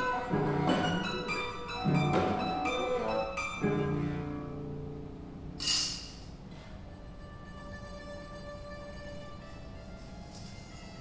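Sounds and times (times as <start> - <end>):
experimental cello playing: 0.0 - 5.3, 6.6 - 11.0.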